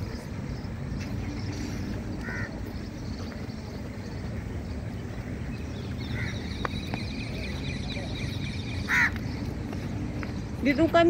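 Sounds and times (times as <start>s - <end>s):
busy public space rumble: 0.0s - 11.0s.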